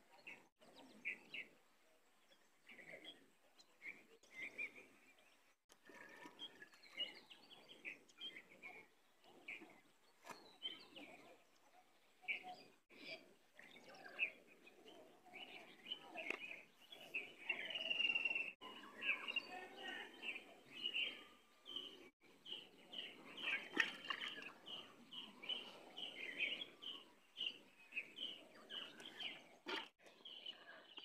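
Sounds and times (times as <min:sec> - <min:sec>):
low outdoor background: 0:00.0 - 0:31.0
small birds chirping: 0:02.3 - 0:31.0.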